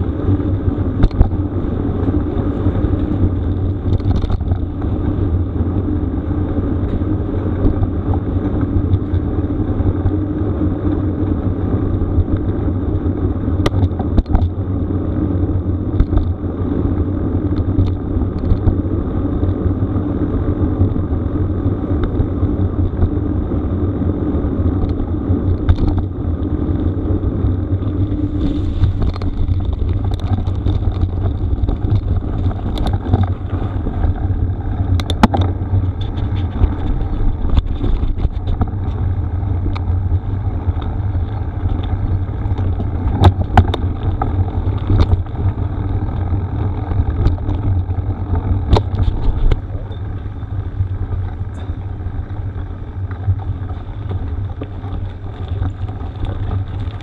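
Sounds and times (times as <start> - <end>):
tyres rolling over gravel: 0.0 - 57.0
wind on the microphone: 0.0 - 57.0.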